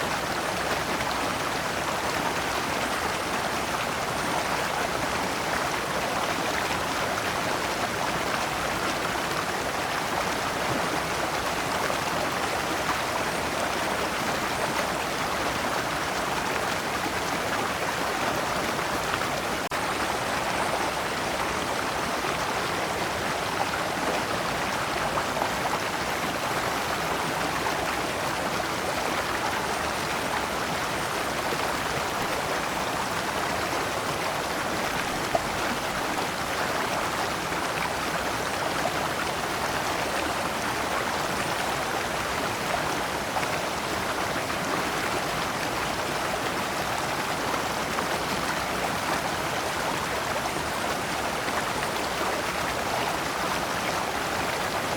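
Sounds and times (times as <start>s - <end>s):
stream flowing over stones: 0.0s - 54.9s.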